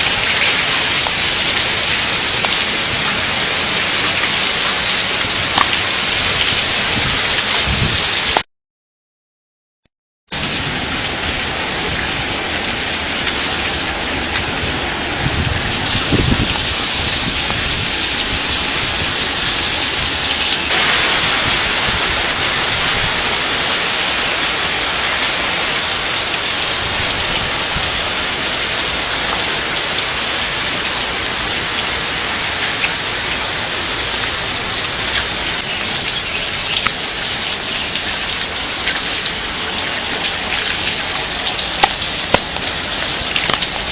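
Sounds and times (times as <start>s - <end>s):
heavy rain and hail: 0.0s - 8.4s, 10.3s - 43.9s.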